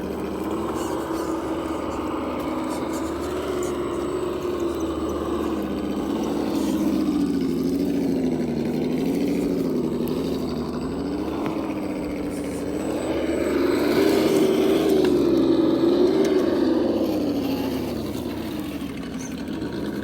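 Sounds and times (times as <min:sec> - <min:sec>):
toy truck motors whining: 0:00.0 - 0:20.0.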